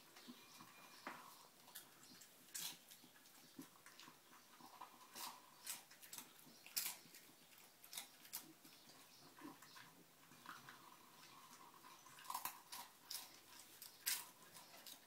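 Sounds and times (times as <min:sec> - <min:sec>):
dog crunching dry food: 0:00.6 - 0:15.0.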